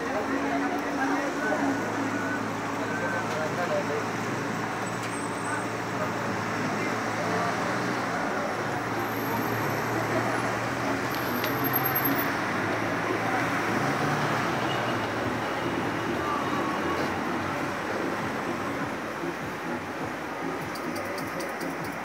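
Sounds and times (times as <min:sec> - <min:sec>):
city street traffic hum: 0:00.0 - 0:22.0.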